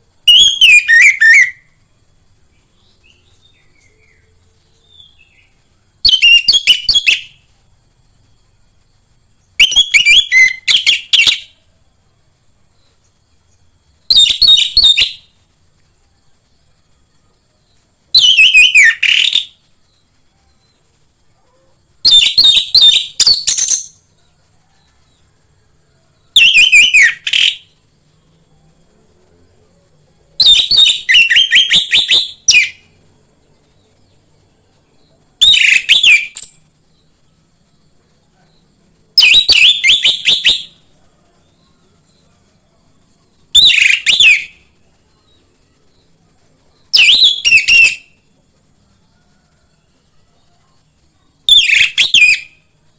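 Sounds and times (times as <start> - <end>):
thrush singing whistled notes: 0.0 - 11.8, 12.7 - 21.0, 22.0 - 25.4, 26.1 - 34.2, 34.8 - 52.9
faint steady high hiss: 0.0 - 52.9.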